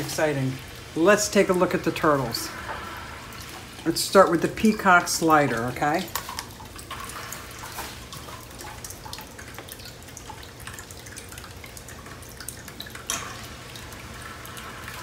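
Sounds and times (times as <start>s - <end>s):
faint trickle of water: 0.0s - 15.0s.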